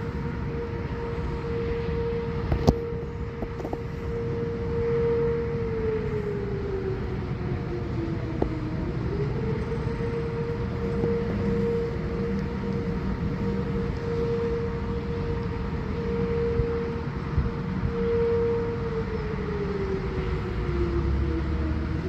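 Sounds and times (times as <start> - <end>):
outdoor warning siren: 0.0 - 22.0.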